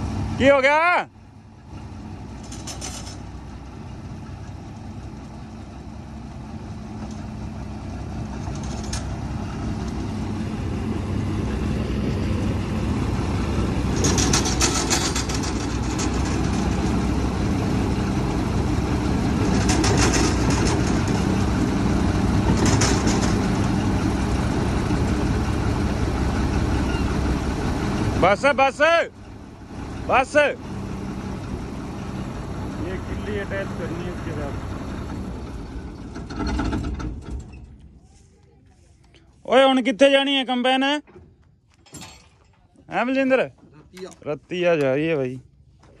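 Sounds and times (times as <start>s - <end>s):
diesel tractor engine running: 0.0s - 46.0s.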